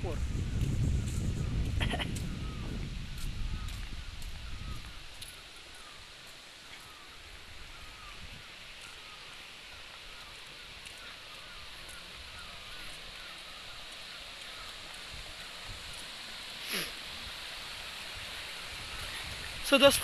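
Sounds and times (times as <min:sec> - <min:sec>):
rushing stream and waterfall: 0:00.0 - 0:20.0.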